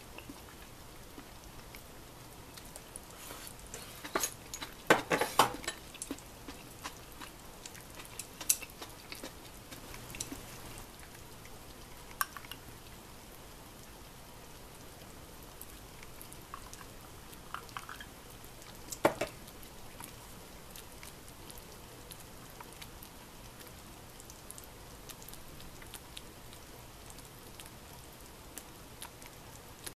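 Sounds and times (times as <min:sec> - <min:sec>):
pot simmering with hiss and pops: 0:00.0 - 0:30.0.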